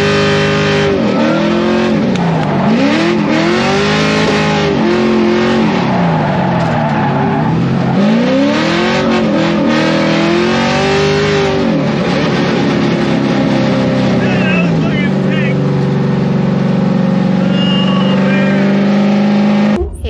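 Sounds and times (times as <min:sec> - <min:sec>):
car engine revving: 0:00.0 - 0:20.0
tyre and road noise: 0:00.0 - 0:20.0.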